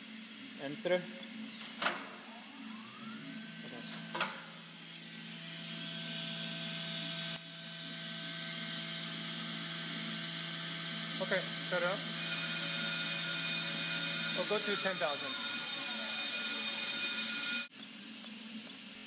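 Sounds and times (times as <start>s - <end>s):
router spindle whine: 2.2s - 17.7s.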